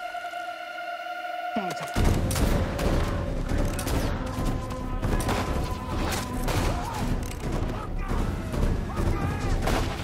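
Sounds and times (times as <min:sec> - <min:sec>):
dramatic music: 0:00.0 - 0:10.0.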